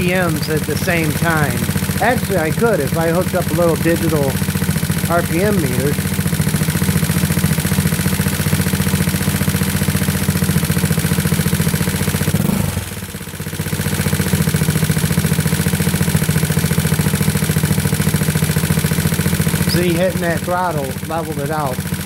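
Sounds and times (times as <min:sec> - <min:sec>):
scooter engine idling: 0:00.0 - 0:22.0.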